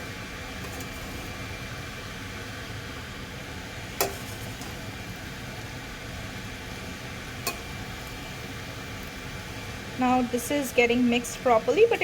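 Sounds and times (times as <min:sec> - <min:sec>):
rice frying hiss: 0:00.0 - 0:12.0.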